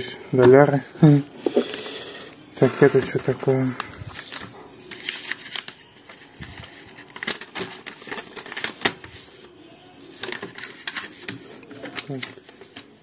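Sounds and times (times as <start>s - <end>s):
paper rustling and crinkling: 2.6s - 13.0s.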